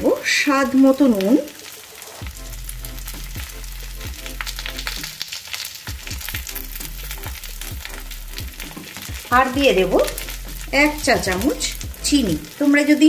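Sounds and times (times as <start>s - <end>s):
sago pearls sizzling in oil: 0.0s - 13.0s.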